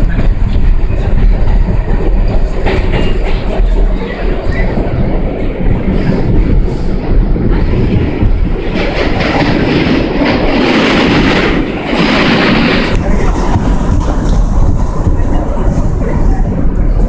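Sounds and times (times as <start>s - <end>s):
train car body rattle: 0.0s - 17.0s
train wheels on rails: 0.0s - 17.0s.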